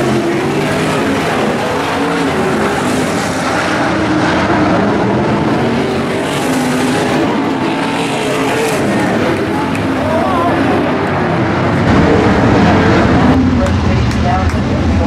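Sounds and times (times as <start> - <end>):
racing car engines roaring: 0.0 - 15.0.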